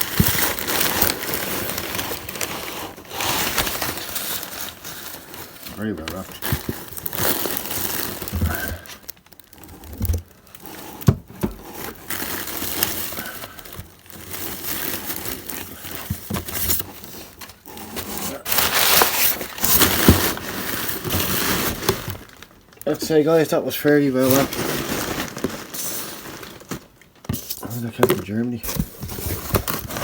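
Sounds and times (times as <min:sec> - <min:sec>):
packaging crinkling and tearing: 0:00.0 - 0:30.0.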